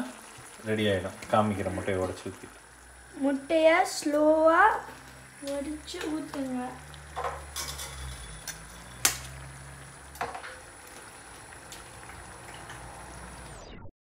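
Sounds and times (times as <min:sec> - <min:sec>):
gravy simmering and bubbling: 0:00.0 - 0:13.7.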